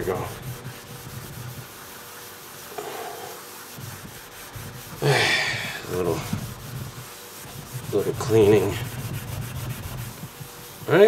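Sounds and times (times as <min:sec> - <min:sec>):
scouring pad scrubbing metal pan: 0:00.0 - 0:11.0.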